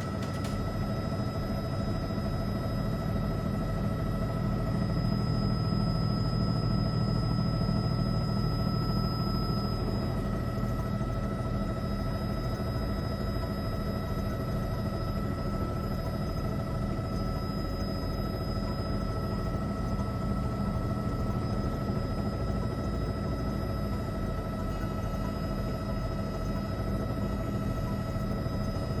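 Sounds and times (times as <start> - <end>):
helicopter rumble in flight: 0.0 - 29.0.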